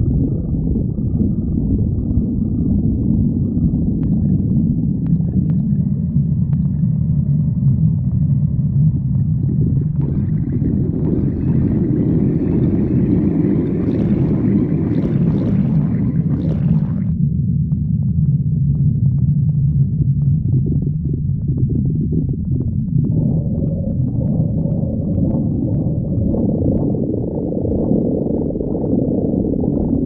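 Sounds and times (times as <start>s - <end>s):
stomach gurgling: 0.0s - 17.2s, 18.0s - 30.0s
stomach rumbling: 0.0s - 30.0s.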